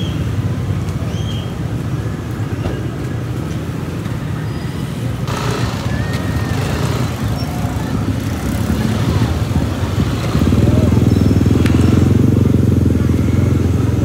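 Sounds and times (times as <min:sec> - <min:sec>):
motorcycle engines rumbling: 0:00.0 - 0:14.0
noisy vehicle passing: 0:00.0 - 0:14.0.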